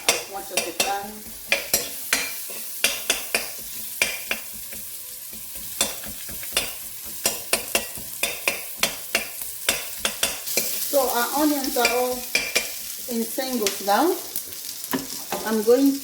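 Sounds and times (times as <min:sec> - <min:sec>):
utensil scraping a wok: 0:00.0 - 0:15.6
onions sizzling in hot oil: 0:00.0 - 0:16.0.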